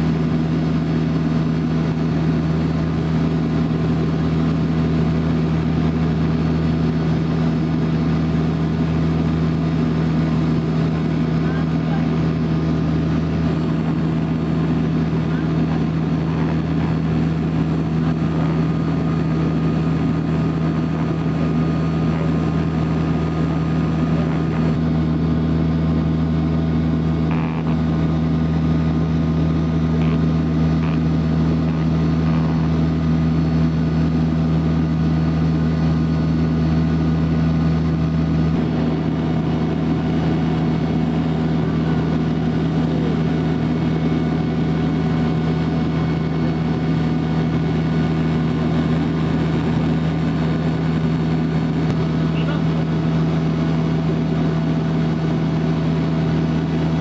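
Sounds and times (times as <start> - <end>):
engine drone: 0.0 - 57.0.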